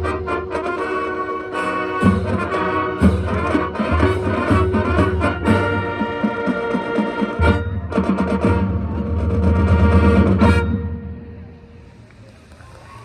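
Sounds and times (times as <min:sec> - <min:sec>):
brass chords: 0:00.0 - 0:11.8
drums keeping steady beat: 0:00.0 - 0:11.9
marching band playing: 0:00.0 - 0:12.0.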